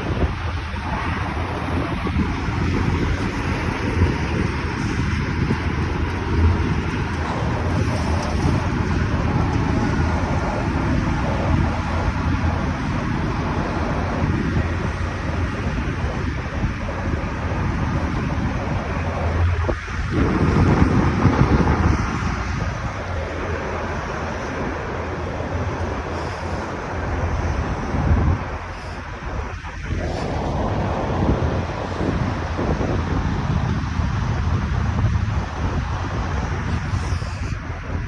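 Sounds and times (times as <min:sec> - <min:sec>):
low traffic rumble: 0:00.0 - 0:38.0
wind buffeting microphone: 0:00.0 - 0:38.0.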